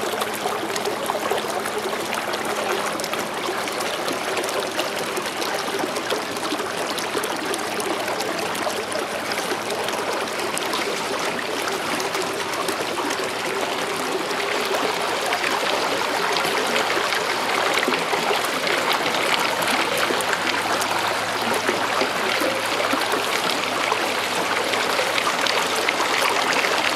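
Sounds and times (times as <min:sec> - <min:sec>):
water rushing and trickling: 0:00.0 - 0:26.9.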